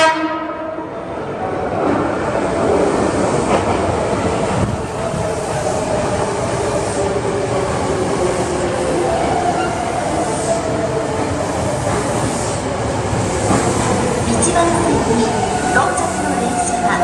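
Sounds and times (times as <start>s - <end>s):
electric train rolling: 1.2s - 17.0s.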